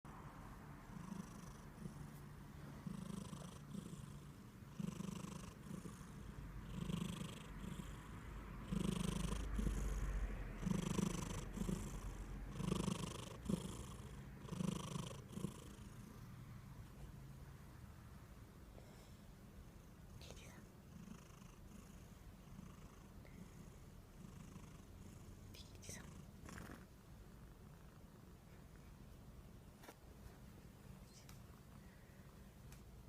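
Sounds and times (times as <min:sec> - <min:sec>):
cat purring: 0:00.1 - 0:16.9, 0:18.7 - 0:29.9.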